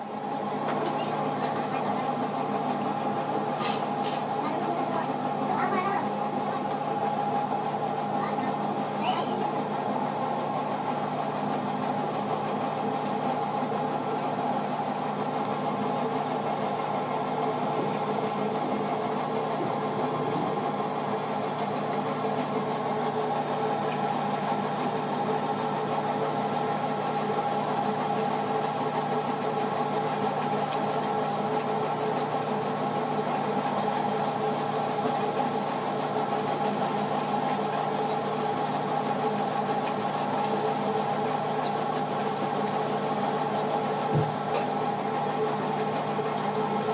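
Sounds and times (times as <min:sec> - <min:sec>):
engine humming steadily: 0:00.0 - 0:46.9.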